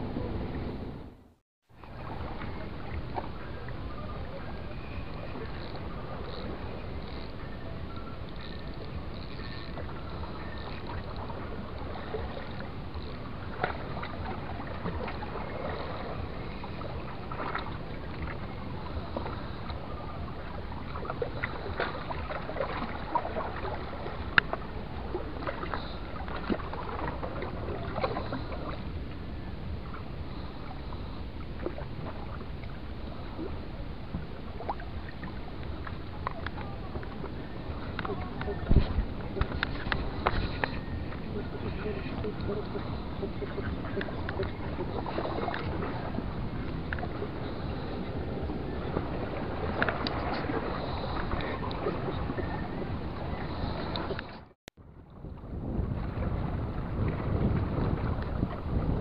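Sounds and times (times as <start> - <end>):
steady low rumble: 0.0 - 59.0
sea water lapping: 1.7 - 59.0.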